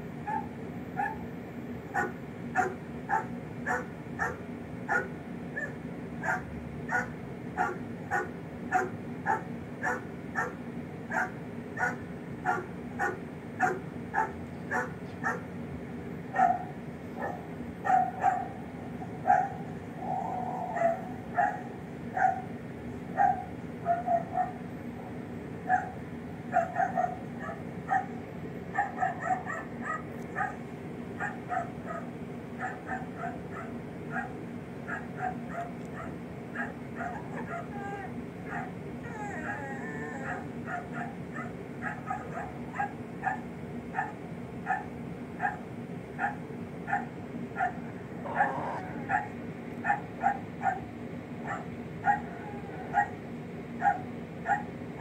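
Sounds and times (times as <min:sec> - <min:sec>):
dog barking and yelping: 0:00.2 - 0:01.3, 0:01.9 - 0:15.5, 0:16.3 - 0:22.5, 0:23.1 - 0:24.7, 0:25.6 - 0:30.6, 0:31.2 - 0:53.2, 0:53.8 - 0:55.0.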